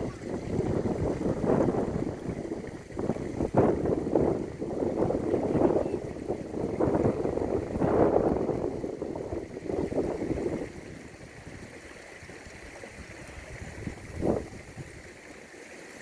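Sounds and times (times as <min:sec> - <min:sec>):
wind gusting on microphone: 0:00.0 - 0:15.2
flowing river water: 0:00.0 - 0:16.0.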